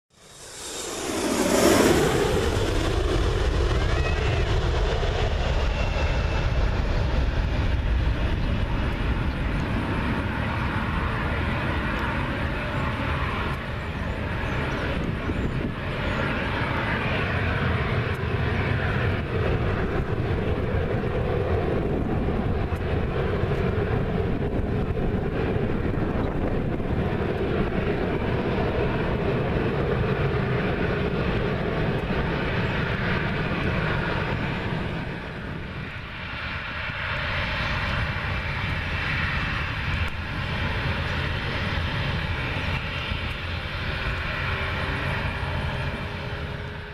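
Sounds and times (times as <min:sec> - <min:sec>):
jet airliner landing: 0:00.1 - 0:46.9.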